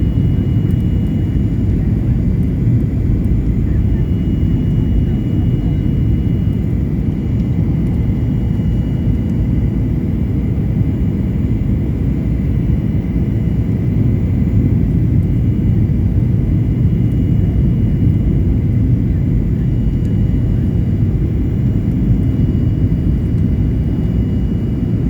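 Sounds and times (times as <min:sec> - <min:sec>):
low rumble of jet engines: 0:00.0 - 0:25.0.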